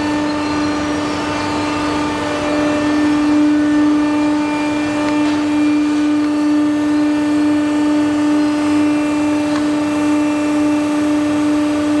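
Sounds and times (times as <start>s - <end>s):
hydraulic unit hum: 0.0s - 12.0s.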